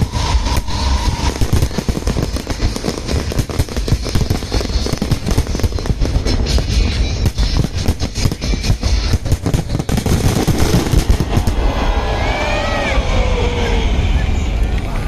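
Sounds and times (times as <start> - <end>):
fireworks bangs and booms: 0.0 - 12.2.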